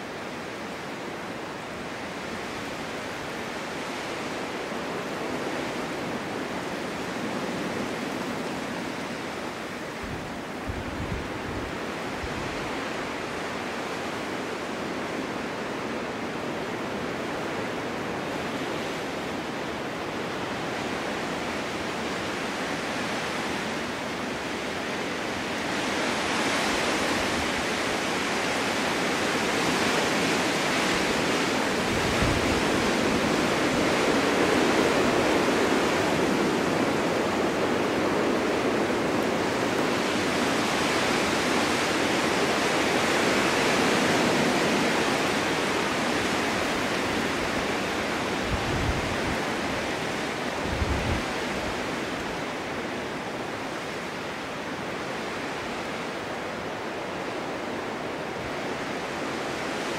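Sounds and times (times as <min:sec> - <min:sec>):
snowstorm wind blowing: 0:00.0 - 0:59.9.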